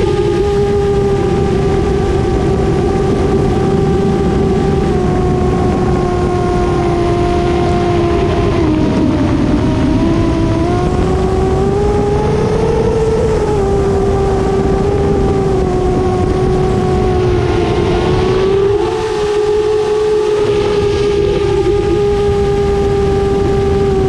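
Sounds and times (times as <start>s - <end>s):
drone motors whining: 0.0s - 24.0s
wind rumbling on microphone: 0.0s - 24.0s.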